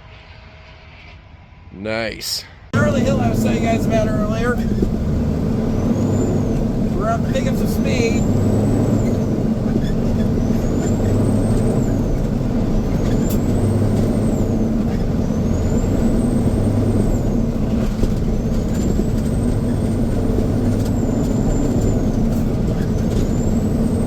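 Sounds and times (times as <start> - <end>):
truck diesel engine drone: 2.3 - 24.0.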